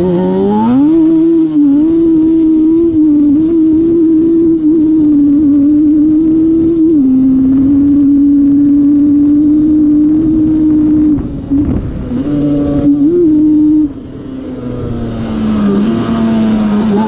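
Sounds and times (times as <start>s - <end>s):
two-stroke engine revving: 0.0s - 17.0s.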